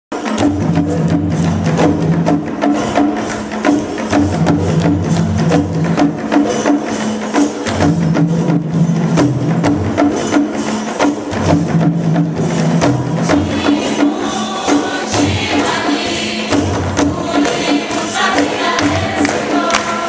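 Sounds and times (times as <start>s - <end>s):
drums playing low pattern: 0.1s - 20.0s.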